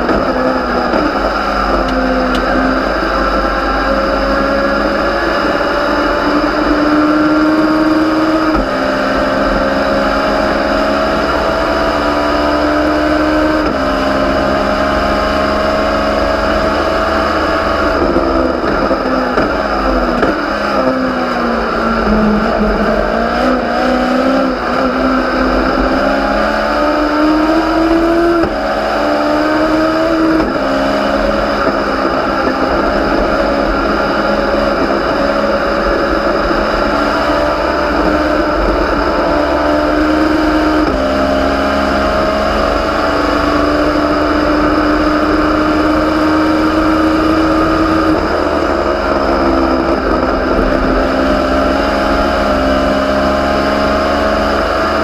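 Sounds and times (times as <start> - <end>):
racing engine at high revs: 0.0 - 55.0.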